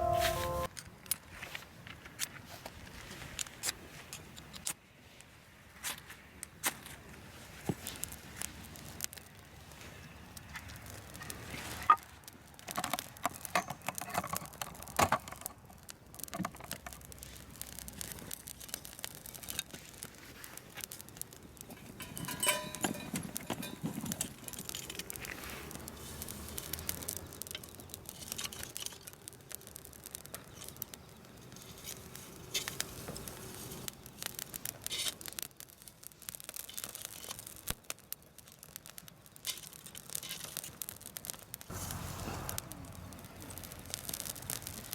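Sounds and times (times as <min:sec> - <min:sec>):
rustling and crinkling: 0:00.0 - 0:44.9.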